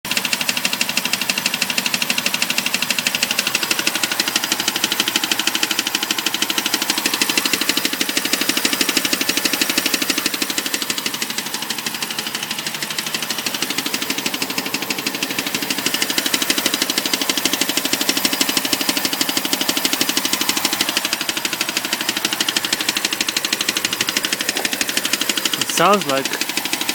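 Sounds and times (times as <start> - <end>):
rapid engine clicking: 0.1 - 26.9.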